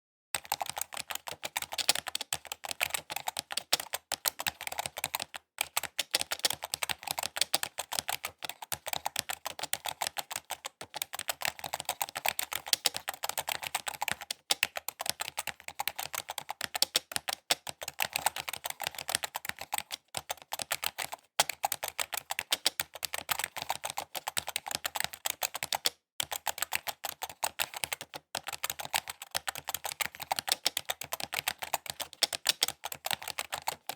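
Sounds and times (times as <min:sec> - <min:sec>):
computer keyboard typing: 0:00.4 - 0:33.9.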